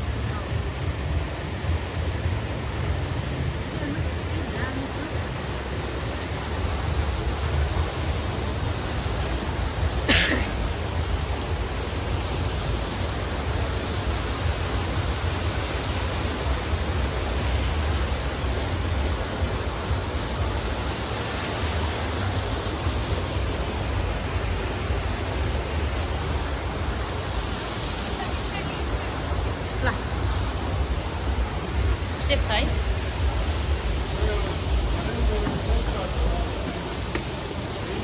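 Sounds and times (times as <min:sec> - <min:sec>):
rushing outdoor noise: 0:00.0 - 0:38.0.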